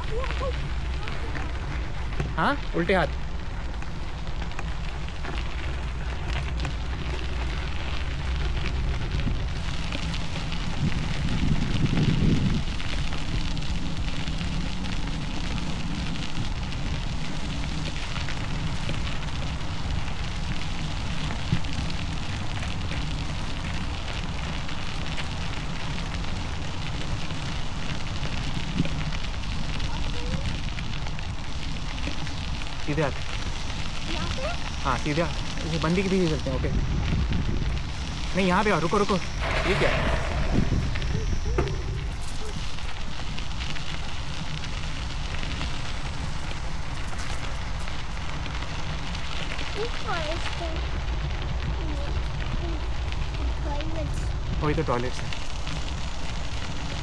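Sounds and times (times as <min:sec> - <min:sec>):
bicycle tyres crunching on gravel: 0:00.0 - 0:57.0
low wind rumble: 0:00.0 - 0:57.0.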